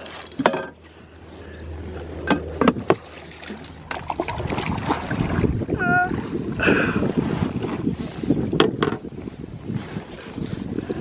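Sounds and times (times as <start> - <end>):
rush of wind and water: 0.0 - 11.0.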